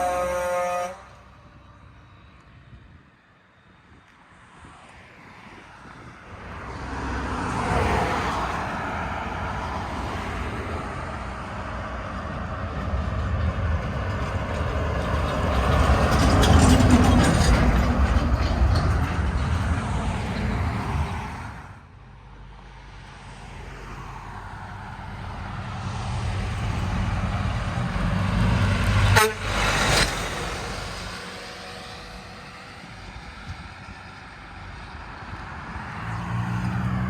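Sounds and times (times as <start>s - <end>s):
heavy truck driving past: 6.4s - 37.0s.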